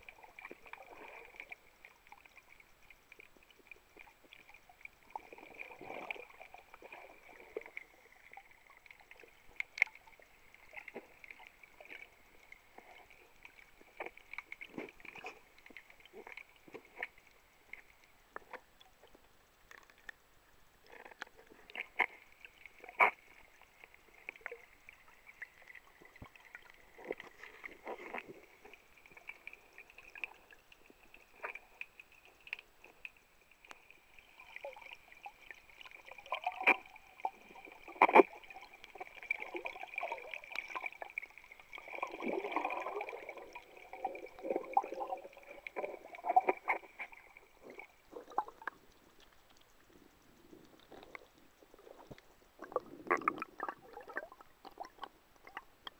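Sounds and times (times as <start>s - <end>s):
underwater gurgling and sloshing: 0.0s - 55.9s.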